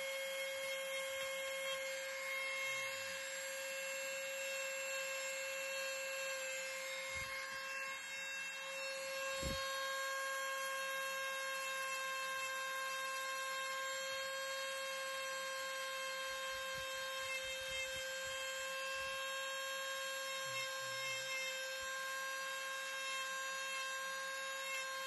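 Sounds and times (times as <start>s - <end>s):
rotary tool grinding wood: 0.0s - 14.2s, 15.2s - 25.0s.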